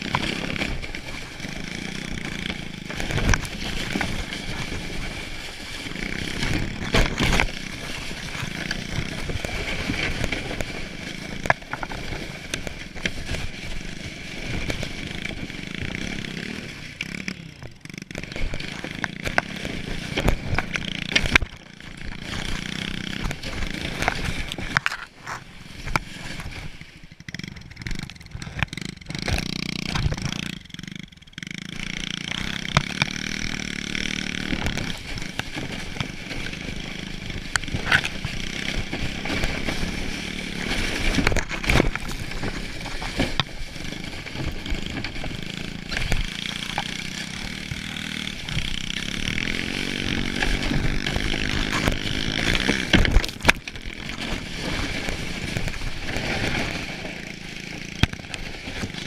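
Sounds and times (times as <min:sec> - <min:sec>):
sled scraping and knocking on snow: 0:00.0 - 0:59.0
small motorbike engine running: 0:00.0 - 0:59.0.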